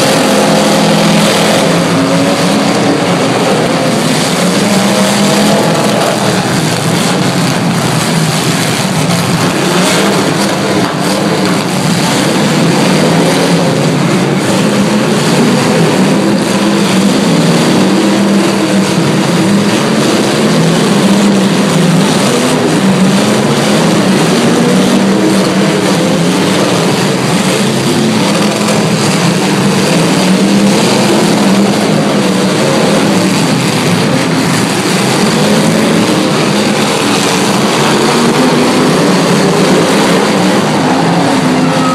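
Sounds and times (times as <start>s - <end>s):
car engines revving hard: 0.0s - 41.9s.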